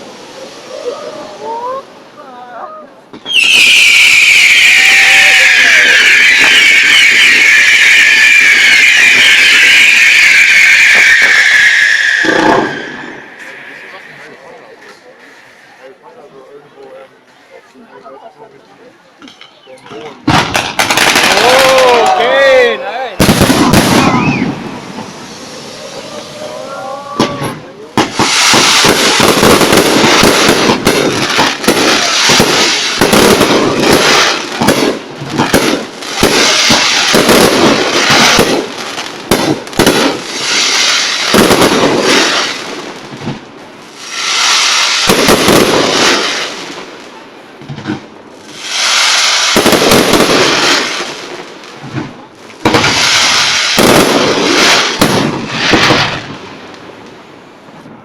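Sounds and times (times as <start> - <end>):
fireworks bangs and crackling: 3.0 - 17.0, 19.2 - 58.0.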